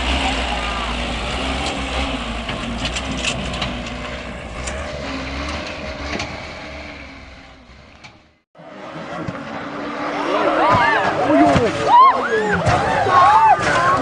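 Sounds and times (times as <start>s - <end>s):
heavy vehicle engine rumbling: 0.0s - 14.0s.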